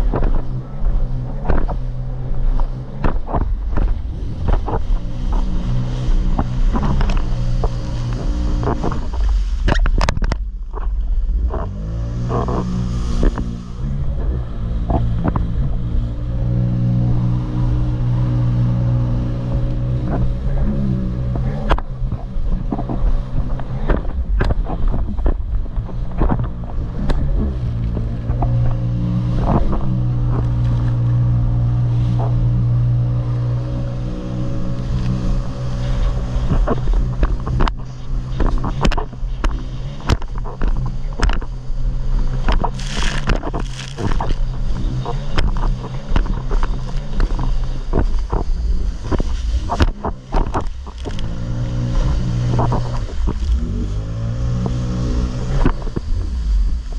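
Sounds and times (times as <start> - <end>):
hull slapping waves: 0.0 - 56.9
jet ski engine droning: 0.0 - 56.9.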